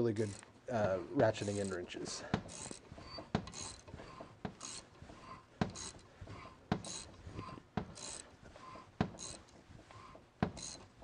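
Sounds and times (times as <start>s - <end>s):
ratchet wrench rasp and click: 0.0s - 0.5s, 1.2s - 10.9s.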